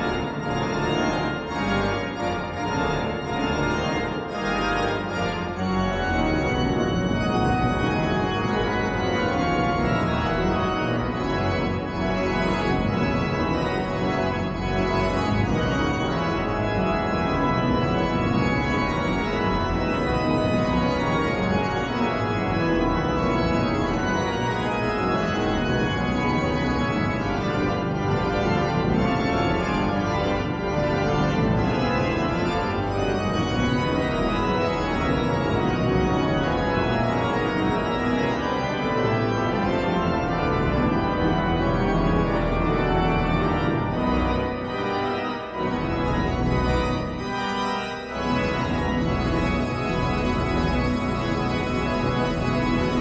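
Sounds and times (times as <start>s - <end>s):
pipe organ playing chords: 0.0s - 53.0s.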